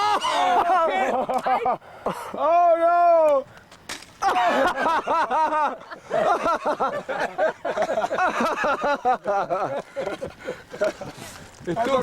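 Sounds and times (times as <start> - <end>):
men laughing and exclaiming: 0.0 - 3.5, 4.2 - 12.0.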